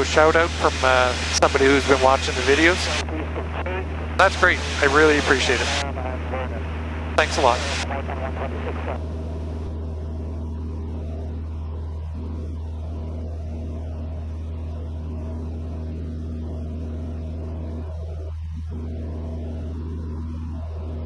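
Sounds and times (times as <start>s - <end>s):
propeller aircraft engine droning: 0.0s - 21.0s.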